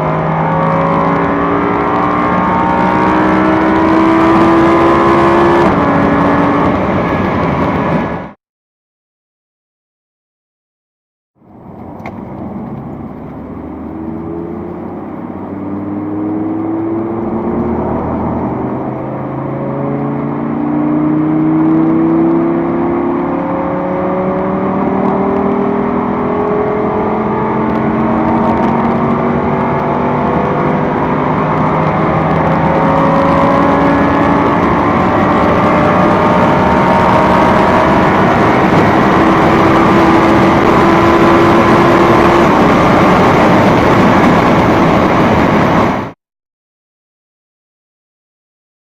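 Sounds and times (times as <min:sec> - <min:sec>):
car engine accelerating hard: 0:00.0 - 0:08.4, 0:11.5 - 0:46.2.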